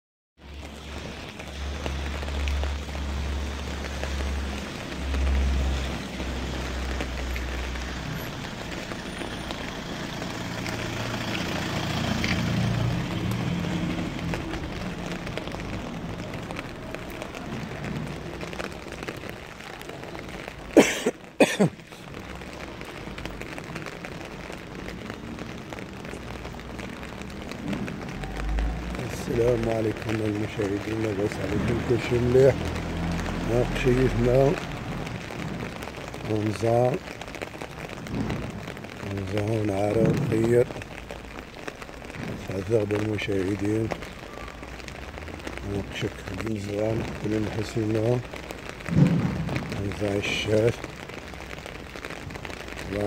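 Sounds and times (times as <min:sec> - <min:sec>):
steady rain falling: 0:00.4 - 0:53.0.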